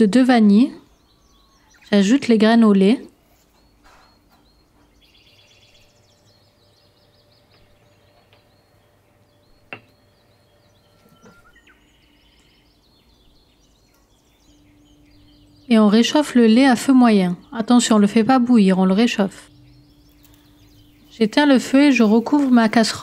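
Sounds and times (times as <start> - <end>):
bird chirps and trills: 0.0 - 23.0.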